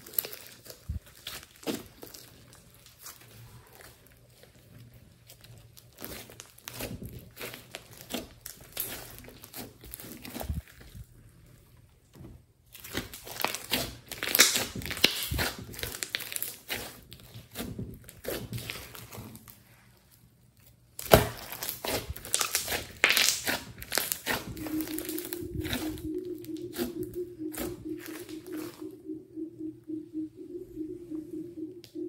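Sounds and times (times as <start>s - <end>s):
slime crackling and squelching: 0.0s - 11.8s, 12.7s - 26.9s.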